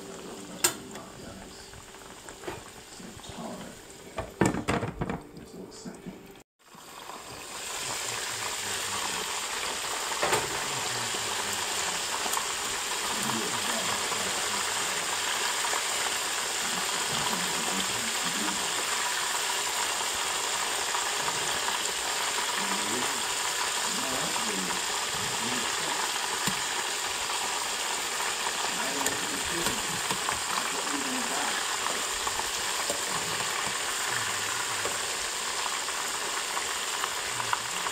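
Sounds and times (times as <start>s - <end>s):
chicken sizzling in hot oil: 0.0s - 4.2s, 6.6s - 37.9s.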